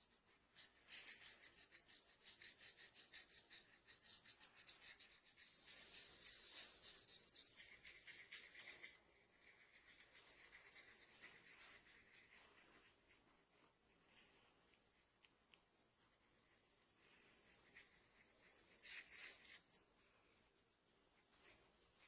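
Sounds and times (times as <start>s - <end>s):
fingers scratching through hair: 0.0s - 22.0s.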